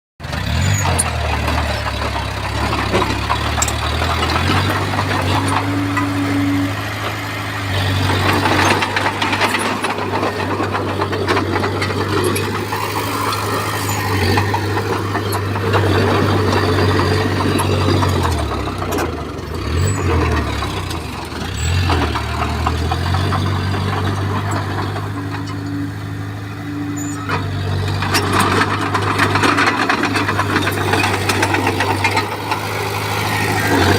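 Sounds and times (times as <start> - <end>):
bulldozer diesel engine: 0.2 - 33.9
clanks and scraping: 0.3 - 33.9.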